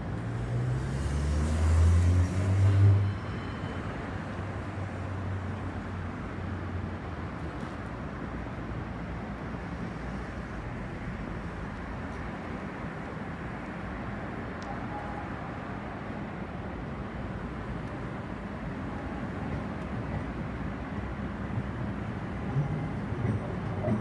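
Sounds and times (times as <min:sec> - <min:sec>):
city street traffic: 0:00.0 - 0:24.0
tram approaching: 0:00.0 - 0:24.0.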